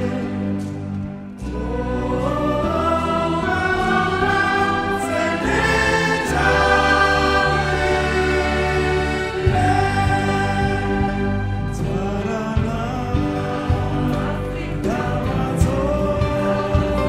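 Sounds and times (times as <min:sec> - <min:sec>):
choral singing: 0:00.0 - 0:17.0.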